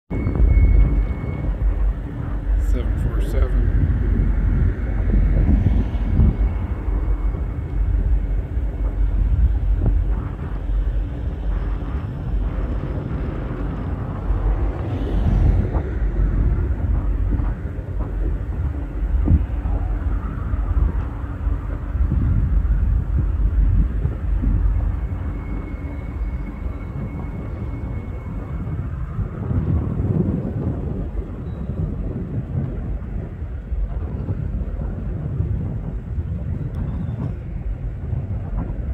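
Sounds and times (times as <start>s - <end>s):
distant jet engine whine: 0.1s - 38.9s
wind rumble on microphone: 0.1s - 38.9s.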